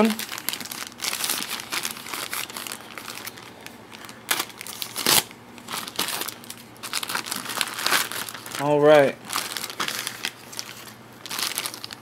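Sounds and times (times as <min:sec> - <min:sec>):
loud plastic crackles: 0:00.0 - 0:12.0
plastic mailer bag crinkling: 0:00.0 - 0:12.0.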